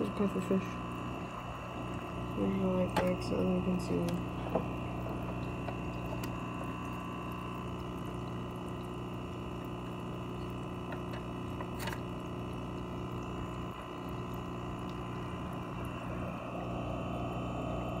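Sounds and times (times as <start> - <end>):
aquarium filter pump humming: 0.0 - 18.0
moving water: 0.0 - 18.0.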